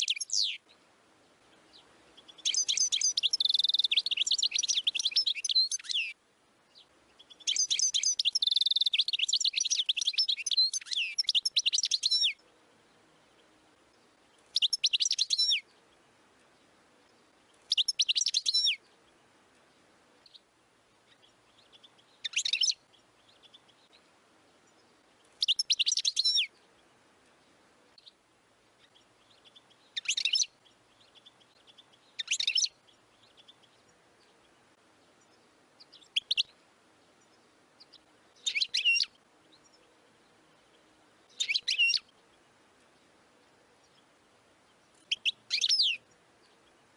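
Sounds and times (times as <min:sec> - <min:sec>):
goldfinch singing: 0:00.0 - 0:00.8, 0:01.5 - 0:12.5, 0:13.2 - 0:15.8, 0:17.4 - 0:20.4, 0:21.0 - 0:24.0, 0:24.6 - 0:26.8, 0:28.8 - 0:39.9, 0:40.6 - 0:46.8.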